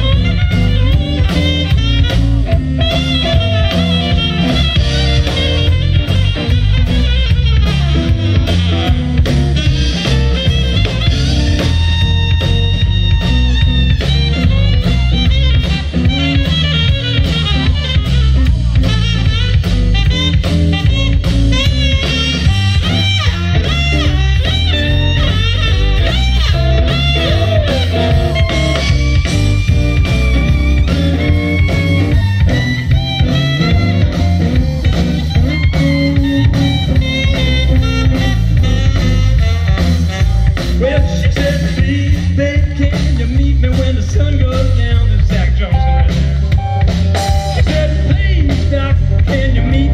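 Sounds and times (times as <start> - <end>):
bass: 0.0 - 49.9
drum kit beat: 0.0 - 49.9
electric guitar: 0.0 - 49.9
live blues band: 0.0 - 49.9
saxophone lead: 0.0 - 49.9.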